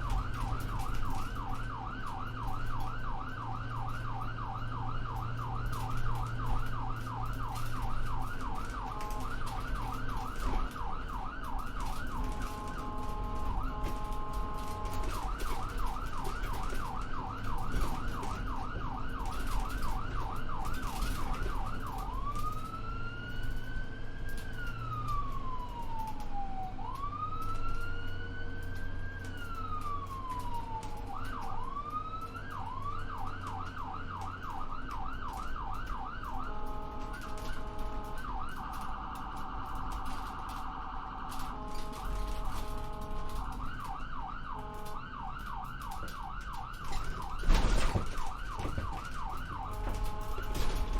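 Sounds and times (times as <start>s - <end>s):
ambulance siren: 0.0s - 50.9s
engine and road rumble: 0.0s - 50.9s.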